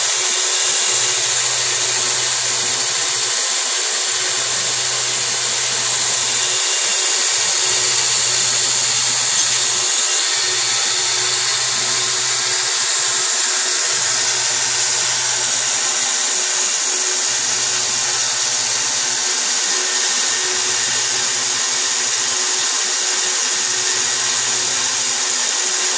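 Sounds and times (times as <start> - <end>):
belt sander hissing: 0.0 - 25.9.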